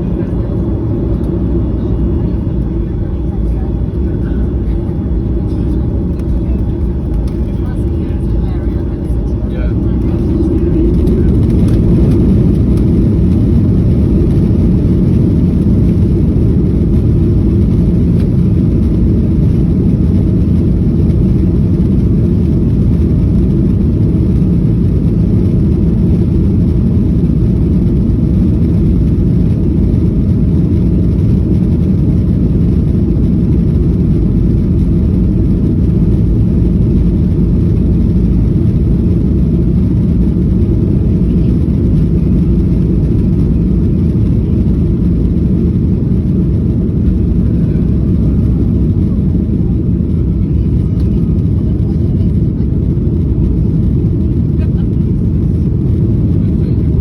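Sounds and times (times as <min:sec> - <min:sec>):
airflow around fuselage: 0:00.0 - 0:57.0
jet engines rumbling in cabin: 0:00.0 - 0:57.0.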